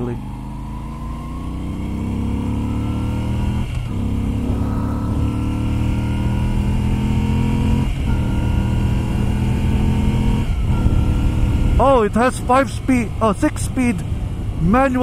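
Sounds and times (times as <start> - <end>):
motorcycle engine accelerating: 0.0 - 15.0
quick gear upshifts: 0.0 - 15.0.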